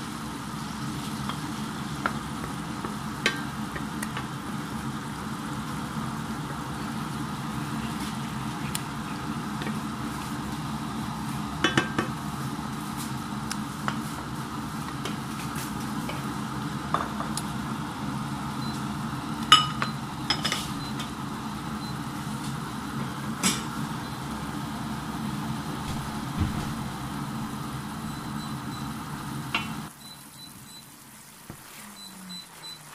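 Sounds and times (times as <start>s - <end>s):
syrup boiling in a frying pan: 0.0s - 25.8s, 27.2s - 32.9s.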